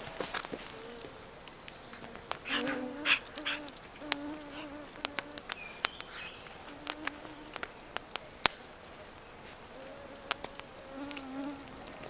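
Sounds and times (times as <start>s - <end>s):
fly buzzing: 0.0s - 12.0s.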